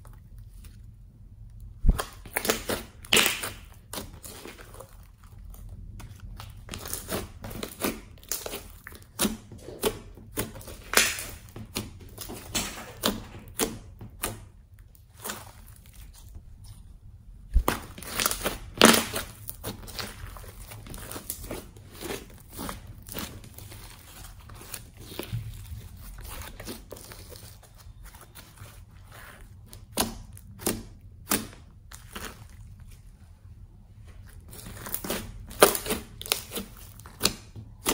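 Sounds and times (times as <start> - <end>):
slime crackling and popping: 1.5 - 16.4, 17.5 - 33.0, 34.4 - 37.9.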